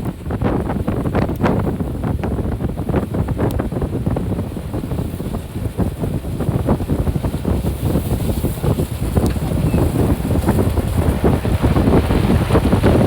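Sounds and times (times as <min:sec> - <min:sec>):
off-road vehicle rumble: 0:00.0 - 0:13.0
wind buffeting: 0:00.0 - 0:13.0.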